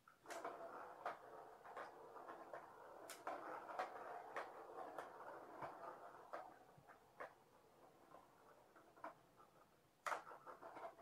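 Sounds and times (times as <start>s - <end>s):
ball rattling around plastic track: 0.0s - 11.0s.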